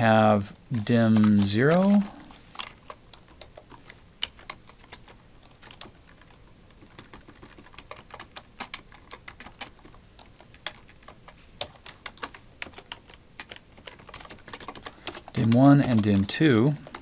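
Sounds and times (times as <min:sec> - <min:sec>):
computer keyboard typing: 0:00.8 - 0:17.0.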